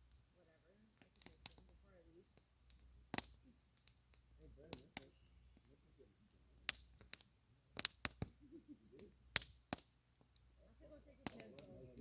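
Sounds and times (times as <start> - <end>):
burning wood popping: 0.0 - 12.0
campfire crackling: 0.0 - 12.0.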